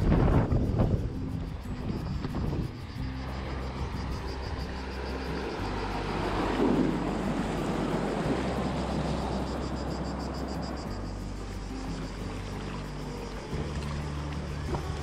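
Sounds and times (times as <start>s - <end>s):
river water rushing and splashing: 2.4s - 15.0s.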